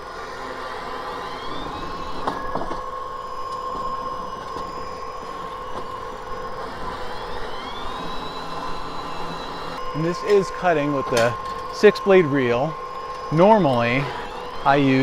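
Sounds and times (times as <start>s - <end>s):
high whine rising in pitch: 0.0s - 15.0s
reel mower motor hum: 0.0s - 15.0s.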